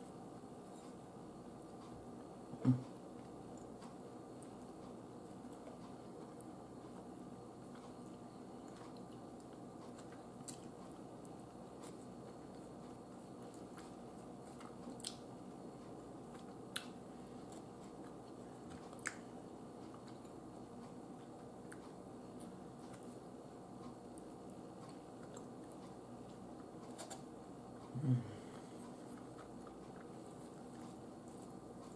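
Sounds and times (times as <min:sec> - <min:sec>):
low room hum: 0:00.0 - 0:31.9
person chewing: 0:03.1 - 0:23.2, 0:23.8 - 0:31.9.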